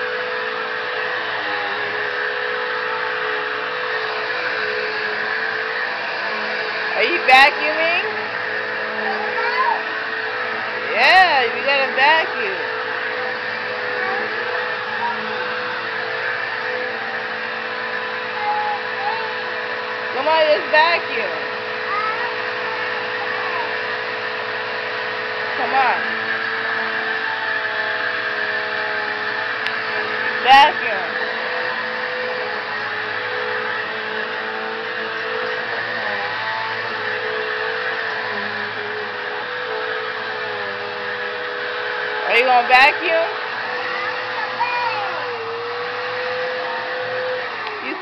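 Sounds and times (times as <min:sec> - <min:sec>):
vacuum cleaner running: 0:00.0 - 0:48.0.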